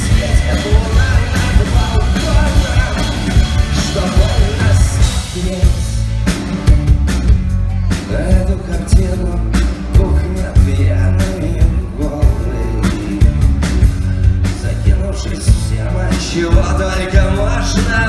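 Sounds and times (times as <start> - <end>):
person singing: 0.0 - 6.1, 7.5 - 18.0
drum kit: 0.0 - 18.0
electric bass: 0.0 - 18.0.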